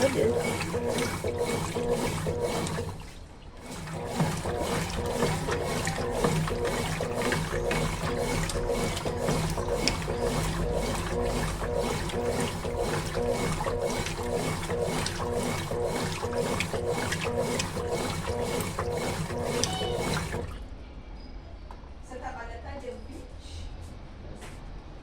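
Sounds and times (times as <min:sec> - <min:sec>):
washing machine agitating: 0:00.0 - 0:20.7.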